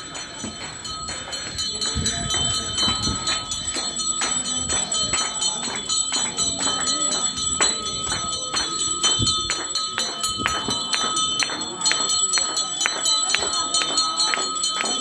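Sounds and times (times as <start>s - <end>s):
temple bells ringing: 0.0s - 15.0s.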